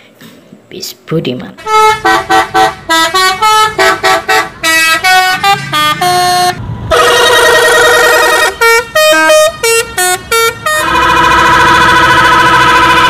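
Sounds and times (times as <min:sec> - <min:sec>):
multi-tone musical air horn: 0:01.6 - 0:13.0.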